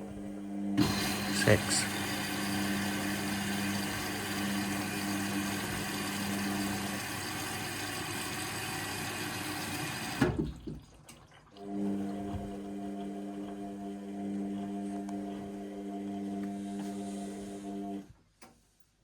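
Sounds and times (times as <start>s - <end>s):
washing machine filling with water: 0.6s - 18.0s.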